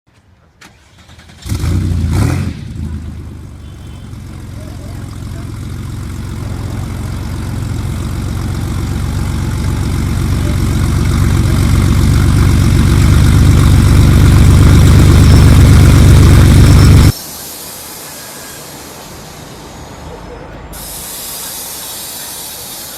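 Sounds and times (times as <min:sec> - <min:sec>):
vehicle engine rumbling: 0:00.1 - 0:22.9.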